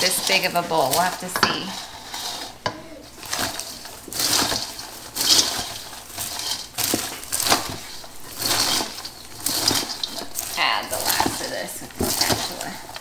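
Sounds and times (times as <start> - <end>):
popcorn stirred in metal bowl: 0.0 - 13.0.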